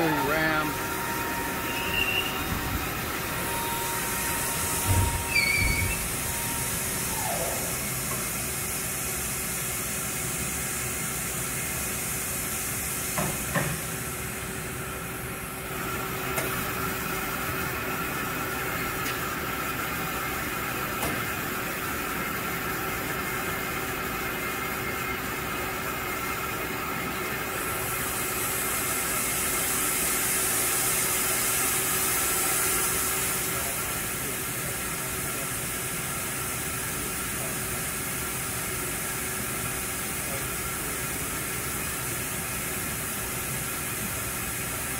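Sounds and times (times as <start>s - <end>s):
machine hum and hiss: 0.0s - 44.9s.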